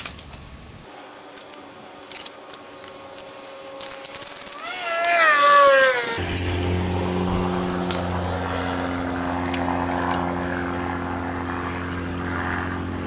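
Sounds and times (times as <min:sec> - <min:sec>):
motor droning hum: 0:00.7 - 0:13.0.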